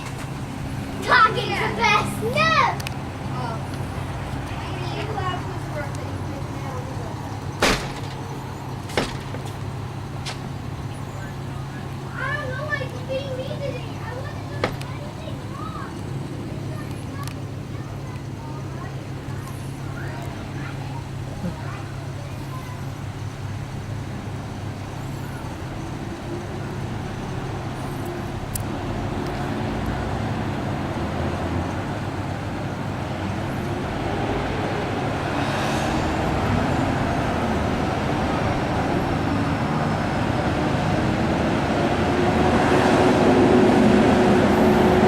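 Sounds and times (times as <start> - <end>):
truck engine drone: 0.0 - 45.0.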